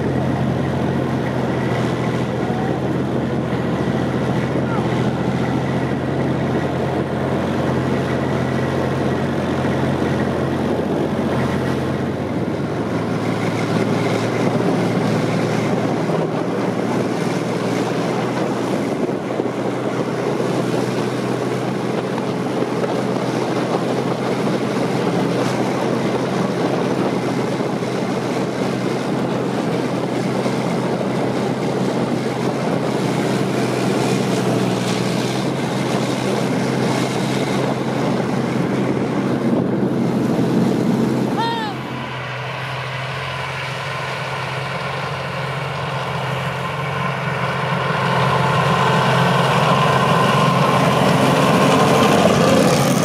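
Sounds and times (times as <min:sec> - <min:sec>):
armoured vehicle engine running: 0:00.0 - 0:53.0
wind noise on microphone: 0:00.0 - 0:53.0.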